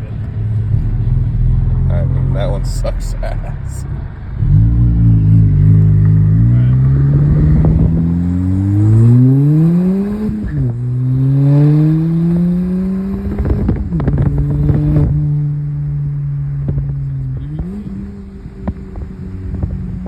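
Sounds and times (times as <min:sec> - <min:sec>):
car engine revving: 0:00.0 - 0:20.0
exhaust crackles: 0:00.0 - 0:20.0.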